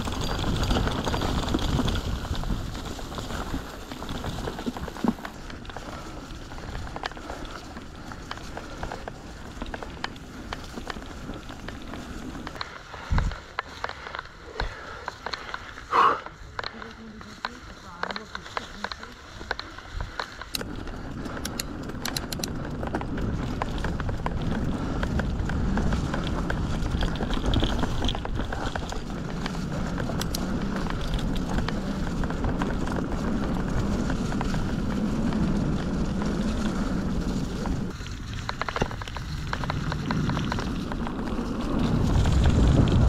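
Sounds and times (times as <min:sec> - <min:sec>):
bike clicks and rattles: 0:00.0 - 0:43.0
tyre and wind noise: 0:00.0 - 0:43.0.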